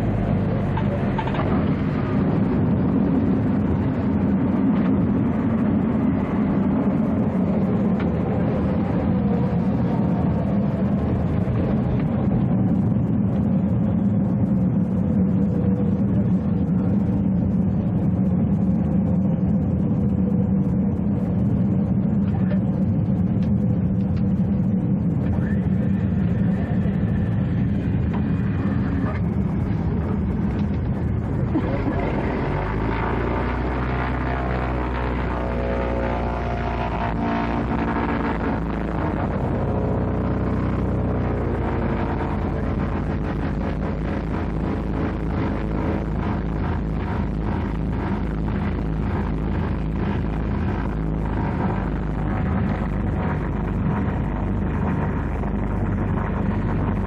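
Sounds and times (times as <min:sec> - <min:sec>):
low steady hum: 0:00.0 - 0:57.0
propeller plane engine from cabin: 0:00.0 - 0:57.0.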